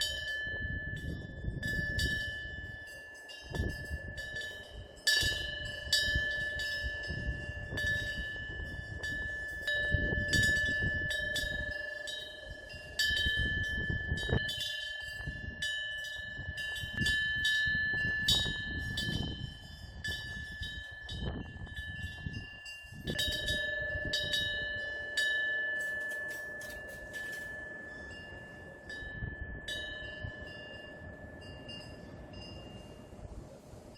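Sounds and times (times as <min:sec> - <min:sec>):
low rumble of wind: 0:00.0 - 0:33.9
wind bell ringing: 0:00.0 - 0:33.9.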